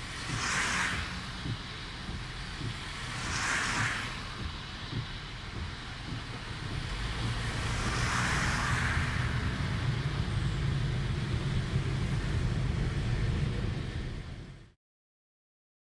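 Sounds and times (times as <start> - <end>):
car road and engine rumble: 0.0 - 14.8.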